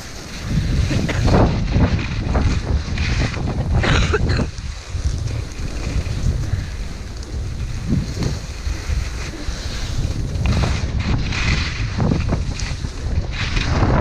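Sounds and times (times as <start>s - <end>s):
skis hissing and scraping on snow: 0.0s - 14.0s
wind buffeting microphone: 0.0s - 14.0s.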